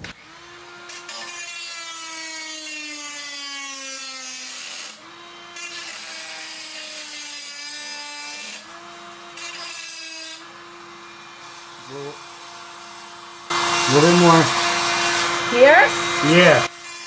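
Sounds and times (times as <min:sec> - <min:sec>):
rotary tool cutting metal: 0:00.0 - 0:17.0.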